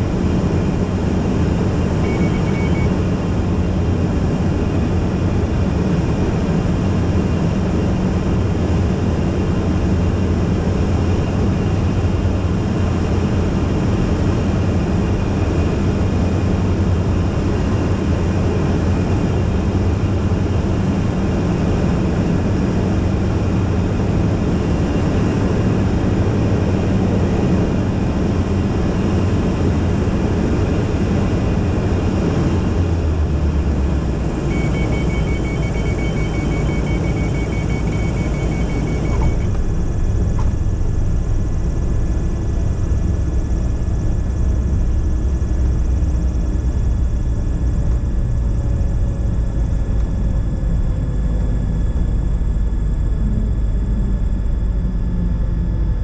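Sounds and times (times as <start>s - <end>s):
aircraft engine and propeller: 0.0s - 56.0s
plane rolling along runway: 0.0s - 56.0s.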